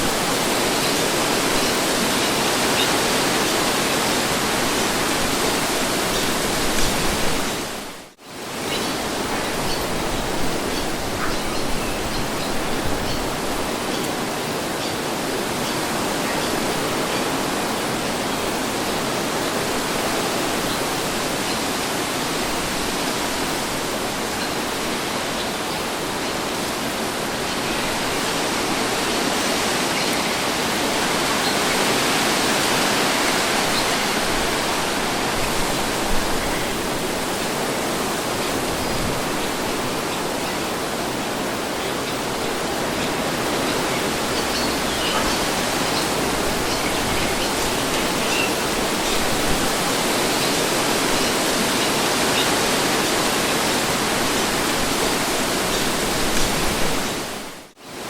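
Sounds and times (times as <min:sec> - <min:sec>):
wind blowing steadily: 0:00.0 - 0:58.0.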